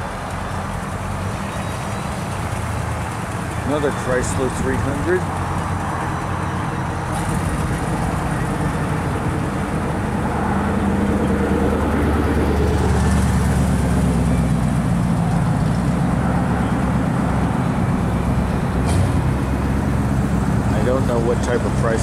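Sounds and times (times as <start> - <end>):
car engines rumbling past: 0.0 - 22.0.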